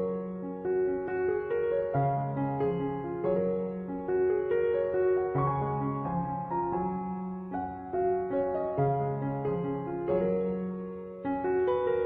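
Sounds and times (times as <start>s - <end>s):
slow gentle piano music: 0.0s - 12.0s.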